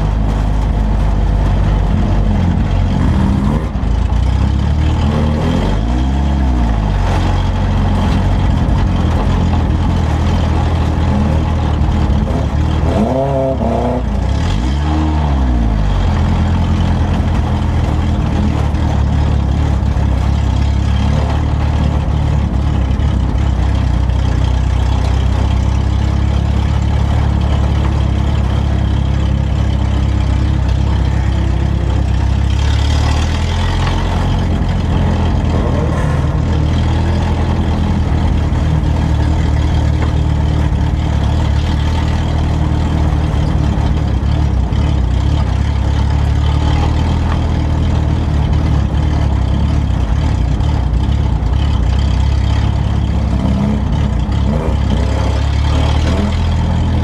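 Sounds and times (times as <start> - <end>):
race car engine droning: 0.0 - 57.0.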